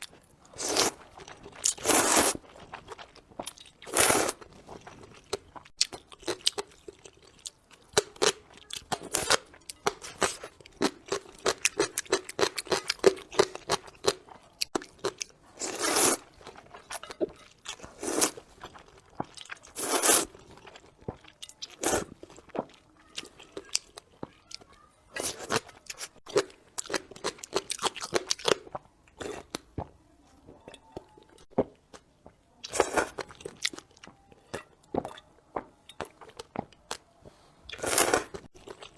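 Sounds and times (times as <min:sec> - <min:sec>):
crunchy chewing: 0:00.0 - 0:38.9.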